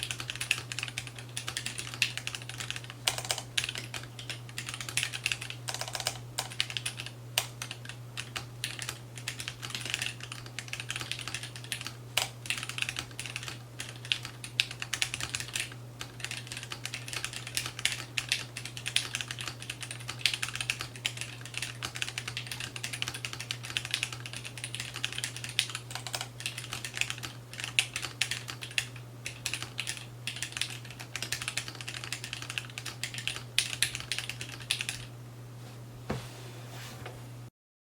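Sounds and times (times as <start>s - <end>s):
mechanical keyboard typing: 0.0s - 35.1s.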